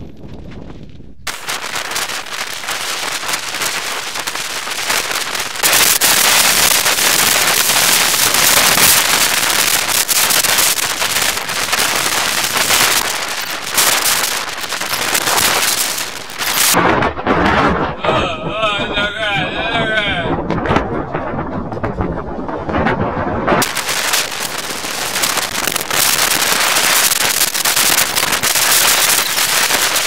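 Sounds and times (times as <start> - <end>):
wind buffeting on microphone: 0.0 - 30.0.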